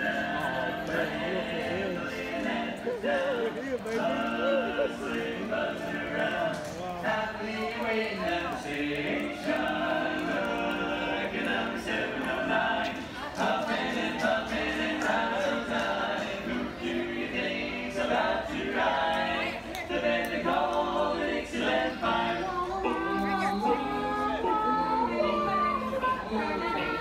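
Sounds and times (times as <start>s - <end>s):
male voices singing in harmony: 0.0s - 27.0s.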